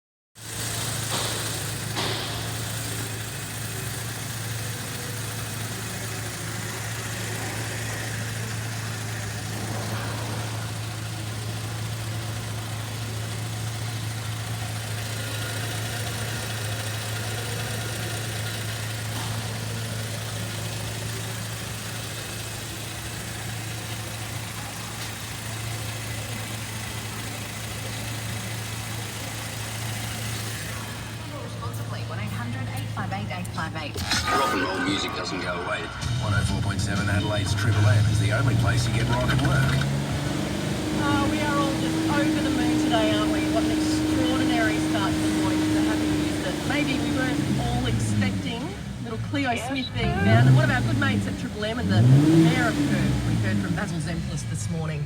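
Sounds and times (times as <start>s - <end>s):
car engine idling: 0.4s - 55.0s.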